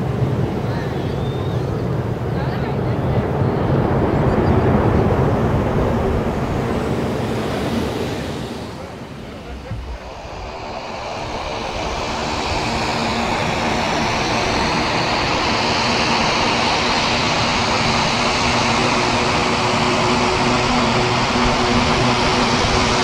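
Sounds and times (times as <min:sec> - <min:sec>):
propeller hum: 0:00.0 - 0:23.0
turboprop engines roaring: 0:00.0 - 0:23.0.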